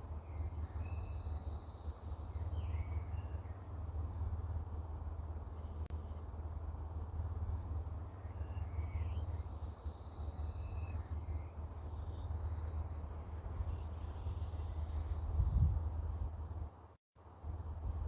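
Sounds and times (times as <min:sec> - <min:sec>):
birds chirping: 0:00.0 - 0:17.6.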